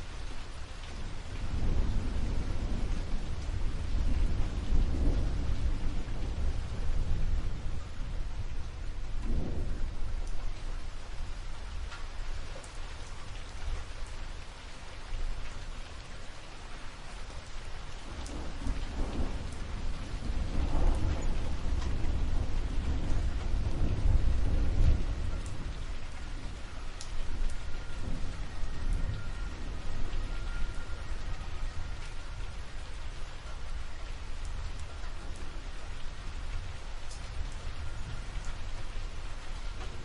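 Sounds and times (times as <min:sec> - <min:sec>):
steady rain: 0:00.0 - 0:40.0
rolling thunder: 0:00.4 - 0:12.4, 0:17.9 - 0:40.0.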